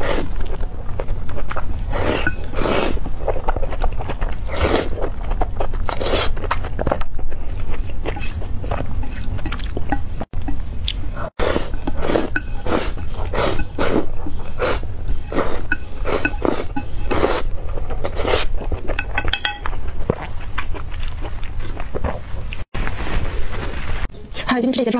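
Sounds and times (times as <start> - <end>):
chewing with mouth clicks: 0.0 - 22.6.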